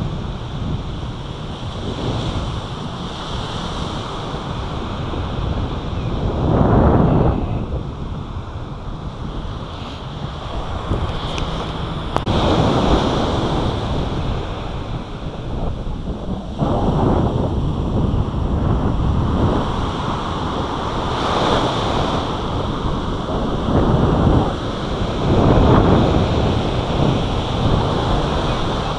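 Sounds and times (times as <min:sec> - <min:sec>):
ocean surf breaking: 0:00.0 - 0:28.9
wind buffeting microphone: 0:00.0 - 0:28.9.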